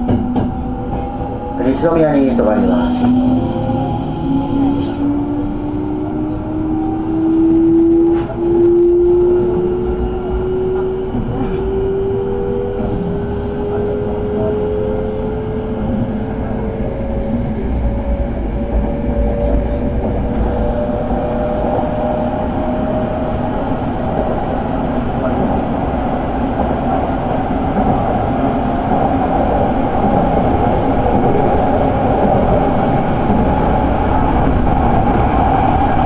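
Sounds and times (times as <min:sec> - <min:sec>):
wheels rumbling on rails: 0:00.0 - 0:36.0.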